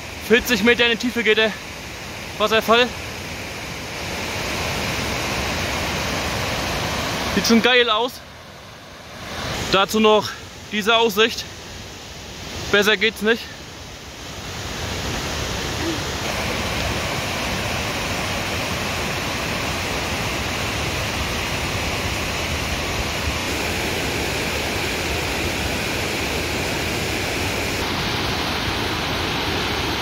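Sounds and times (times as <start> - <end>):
waterfall roaring over rocks: 0.0 - 30.0.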